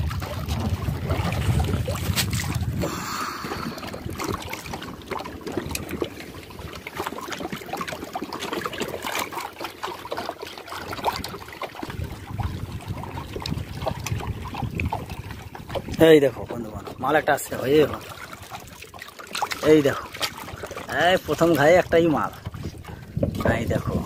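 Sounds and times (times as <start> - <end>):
water trickling and dripping: 0.0 - 24.0.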